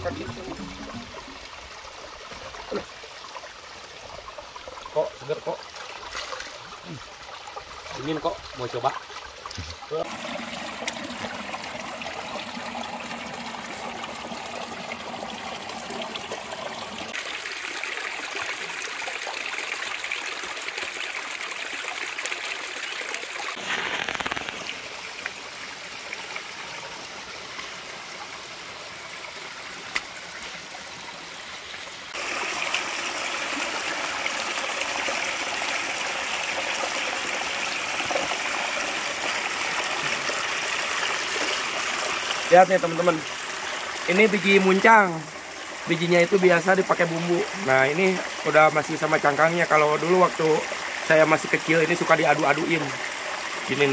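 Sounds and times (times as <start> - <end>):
stream trickling over stones: 0.0 - 53.9.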